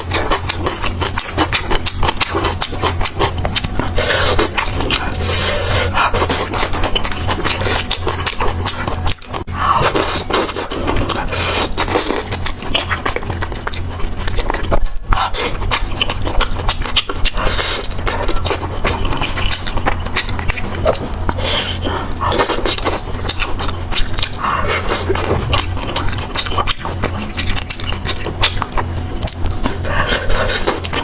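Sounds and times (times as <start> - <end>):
chewing and crunching: 0.0 - 31.0
low hum: 0.0 - 31.0.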